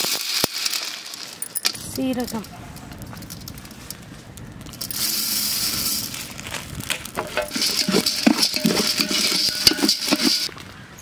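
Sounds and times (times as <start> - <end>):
seeds clattering on metal plate: 0.0 - 4.0, 4.7 - 10.5
seeds hissing as they fall: 0.0 - 10.5.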